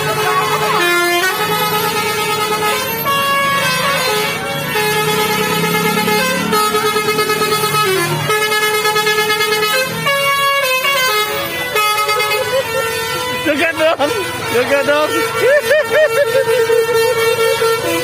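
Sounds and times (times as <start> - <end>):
musical bus air horn: 0.0 - 18.0.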